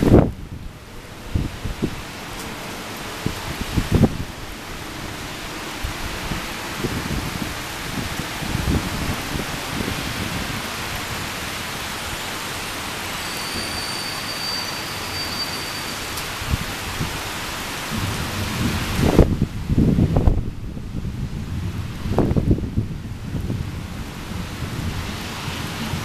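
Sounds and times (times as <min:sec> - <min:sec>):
thunder rumbles: 0:00.0 - 0:13.2, 0:16.3 - 0:26.0
heavy rain pouring: 0:00.0 - 0:26.0.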